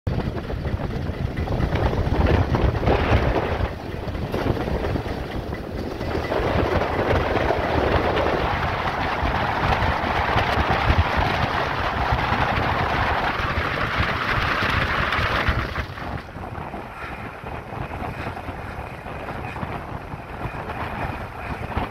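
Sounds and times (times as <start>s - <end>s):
wind buffeting microphone: 0.1s - 21.9s.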